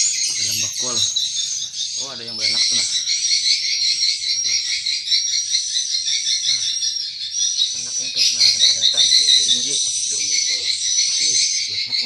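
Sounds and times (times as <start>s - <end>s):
swiftlets twittering: 0.0s - 12.0s.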